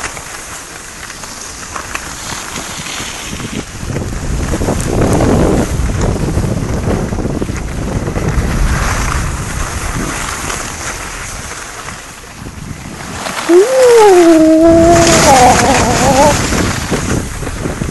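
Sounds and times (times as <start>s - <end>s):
skis hissing over snow: 0.0s - 17.9s
wind buffeting microphone: 2.2s - 17.9s.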